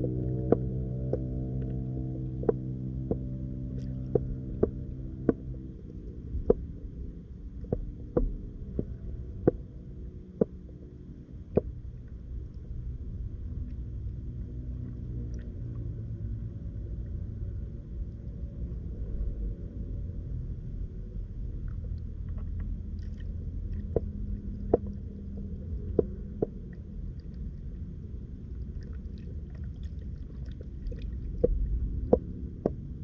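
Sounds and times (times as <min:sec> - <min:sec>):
low underwater rumble: 0:00.0 - 0:33.0.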